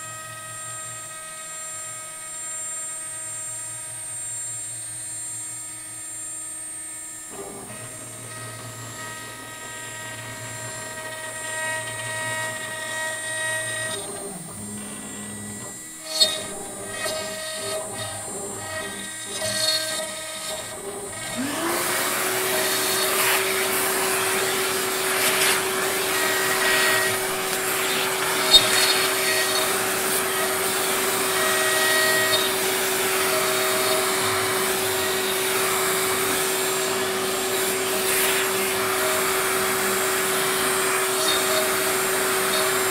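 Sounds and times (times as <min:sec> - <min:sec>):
router spindle whine cutting wood: 0:00.0 - 0:42.9
shop vacuum motor: 0:00.0 - 0:42.9.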